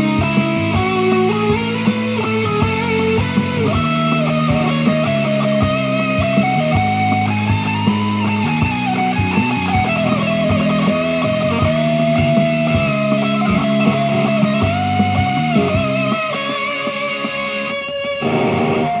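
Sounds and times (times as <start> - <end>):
backing track with bass and drums: 0.0 - 19.0
electric guitar lead melody: 0.0 - 19.0.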